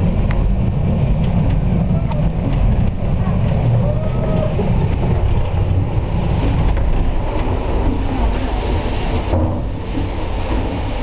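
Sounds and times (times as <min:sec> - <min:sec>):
cliff railway car rumbling on rails: 0:00.0 - 0:11.0.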